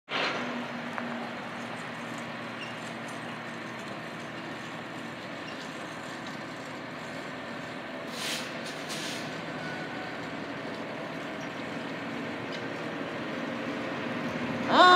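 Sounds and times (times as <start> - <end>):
diesel engine idling: 0.4 - 14.9.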